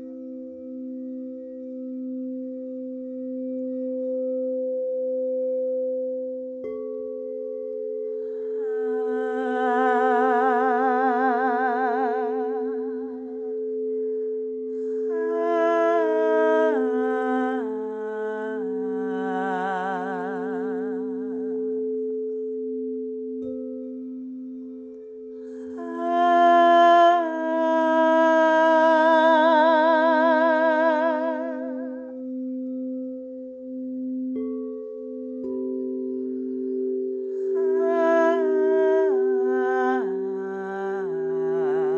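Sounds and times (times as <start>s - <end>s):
singing bowls sustained tones: 0.0s - 41.9s.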